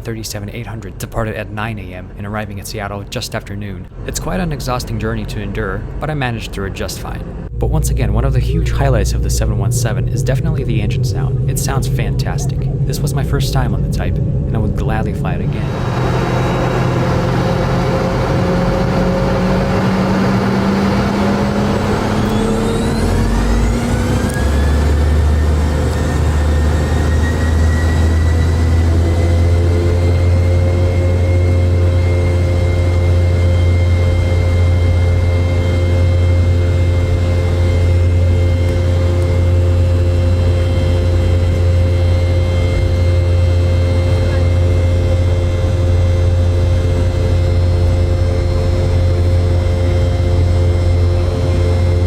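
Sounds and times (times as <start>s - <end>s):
jet engine whine: 3.8s - 52.0s
loud low drone: 3.8s - 52.0s.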